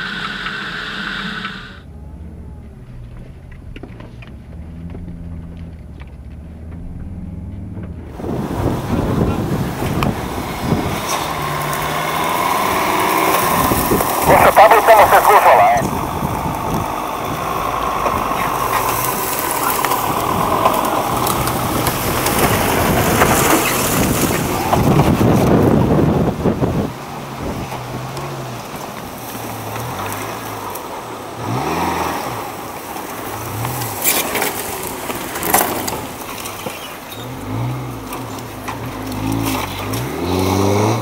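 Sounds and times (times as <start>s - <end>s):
engine revving: 0.0s - 41.0s
engine running under load: 0.0s - 41.0s.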